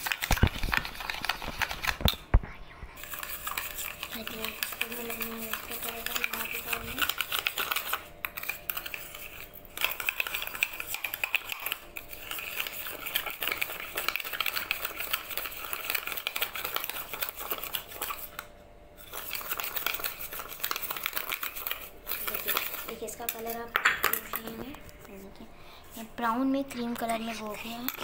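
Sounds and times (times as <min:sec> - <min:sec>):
spoon scraping and clinking bowl: 0:03.0 - 0:18.4, 0:19.0 - 0:24.7, 0:26.7 - 0:28.0.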